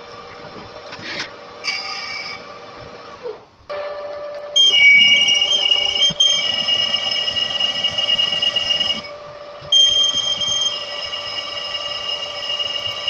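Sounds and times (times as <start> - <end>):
cutting tool squealing whine: 0.0 - 3.4, 4.4 - 13.0
lathe running: 0.0 - 13.0.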